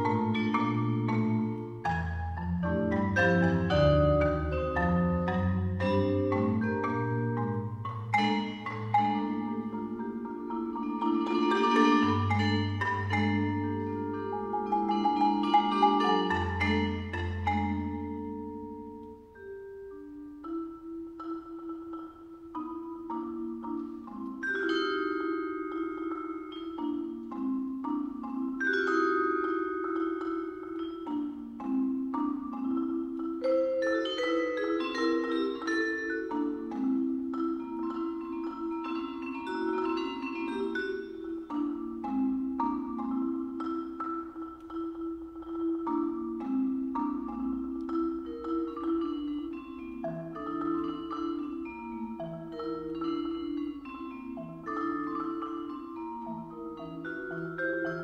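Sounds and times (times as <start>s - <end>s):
marimba and vibraphone playing: 0.0s - 58.0s.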